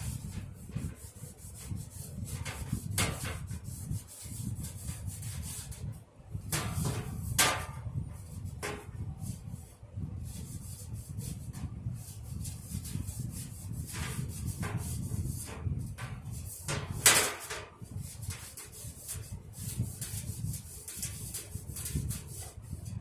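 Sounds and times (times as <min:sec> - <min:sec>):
handling knocks and scrapes: 0:00.0 - 0:09.6, 0:10.4 - 0:23.0
wipe rubbing over fan case: 0:00.0 - 0:23.0.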